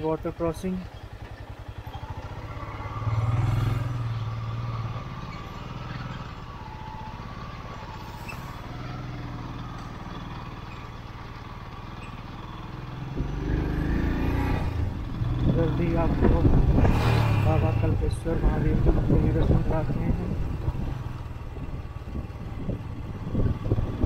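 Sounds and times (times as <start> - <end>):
motorcycle engine at low speed: 0.0 - 24.0.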